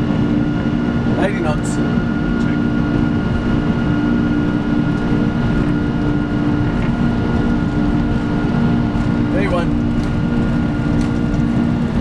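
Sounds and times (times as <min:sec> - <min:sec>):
aircraft engines rumble and hum: 0:00.0 - 0:12.0.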